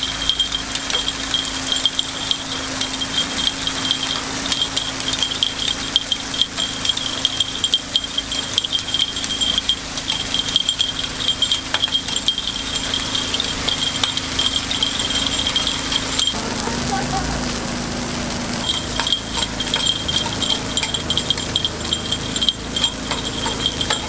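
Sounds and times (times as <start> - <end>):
metal picks clicking on griddle: 0.0 - 24.0.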